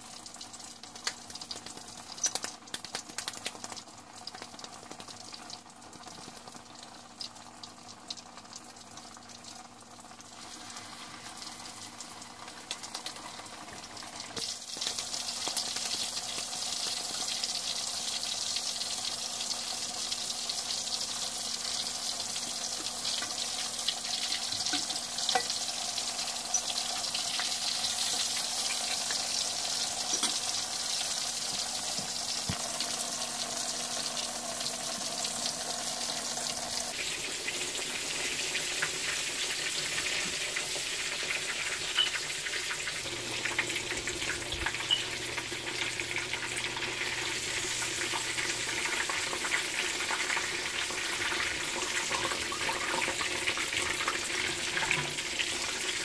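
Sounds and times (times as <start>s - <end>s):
patties frying in hot oil: 0.0s - 56.0s.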